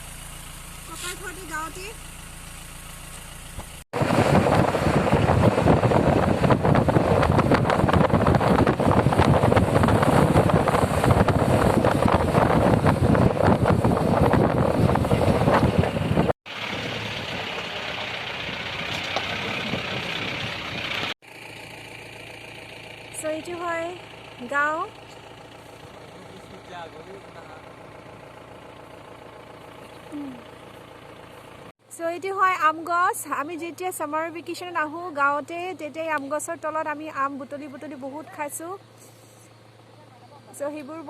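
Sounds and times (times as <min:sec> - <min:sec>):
road noise: 0:00.0 - 0:31.7, 0:33.3 - 0:41.0
vehicle engine running: 0:00.0 - 0:41.0.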